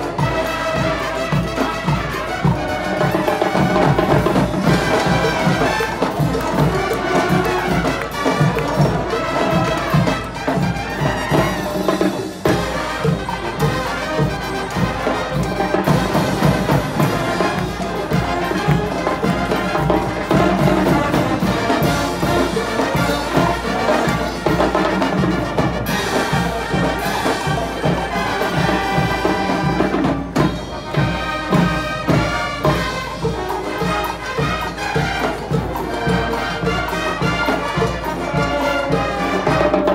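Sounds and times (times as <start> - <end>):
marching band playing: 0.0 - 39.9.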